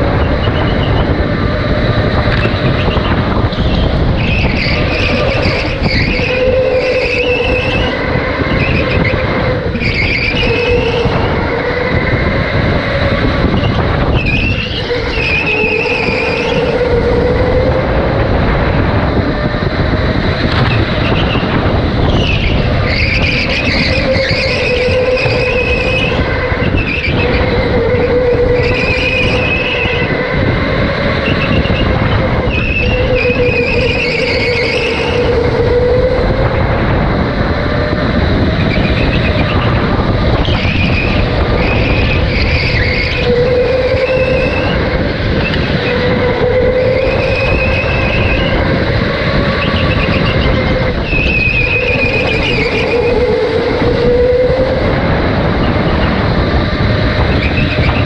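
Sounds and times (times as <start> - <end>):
electric motor whining: 0.0 - 58.0
kart rumbling on concrete: 0.0 - 58.0
tyres squealing: 0.0 - 58.0.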